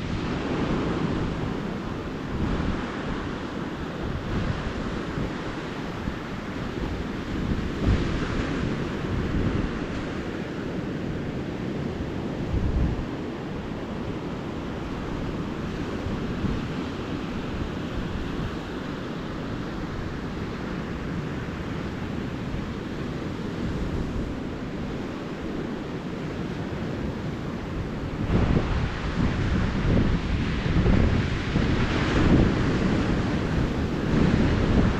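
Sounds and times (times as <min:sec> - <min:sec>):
ocean surf washing onto beach: 0:00.0 - 0:34.9
wind buffeting microphone: 0:00.0 - 0:34.9.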